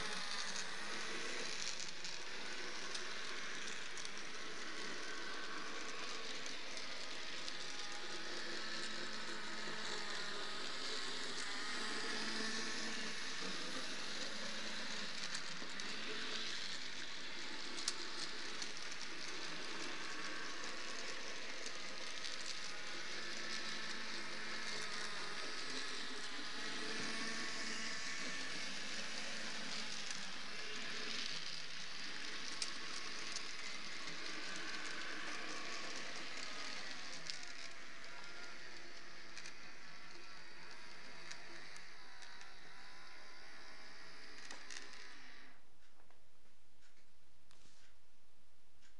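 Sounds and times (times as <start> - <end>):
model locomotive motor hissing: 0.0 - 45.6
faint wavering whine: 0.0 - 48.9.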